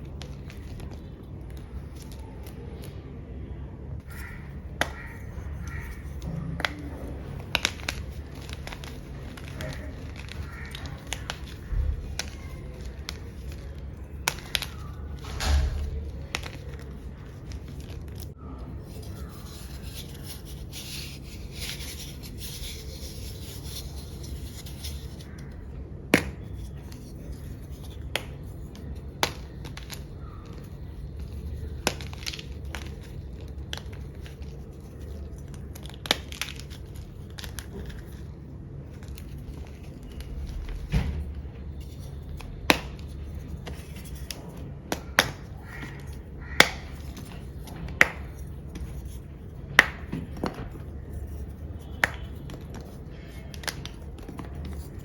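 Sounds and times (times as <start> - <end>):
chalk crumbling and crunching: 0.0 - 3.0, 4.0 - 55.0
chalk pieces snapping: 0.0 - 3.0, 4.0 - 55.0.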